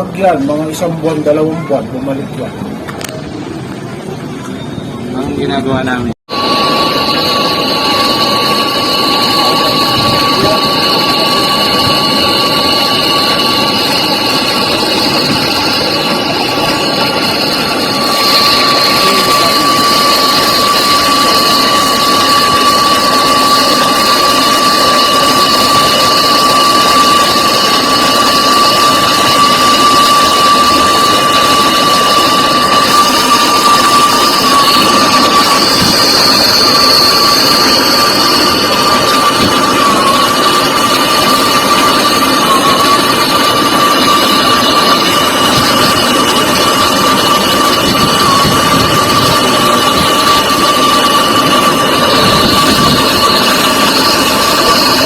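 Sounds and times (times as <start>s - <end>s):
machine motor whining: 6.3s - 55.0s.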